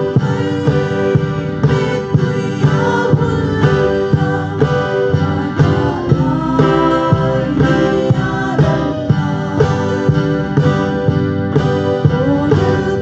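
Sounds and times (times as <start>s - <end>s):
women singing together: 0.0s - 10.9s, 12.0s - 13.0s
acoustic guitar strumming: 0.0s - 13.0s
bass guitar: 0.0s - 13.0s
keyboard: 0.0s - 13.0s.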